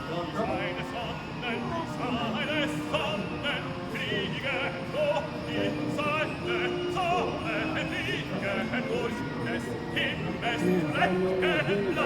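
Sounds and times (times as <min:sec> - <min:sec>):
music with singing voice: 0:00.0 - 0:12.0.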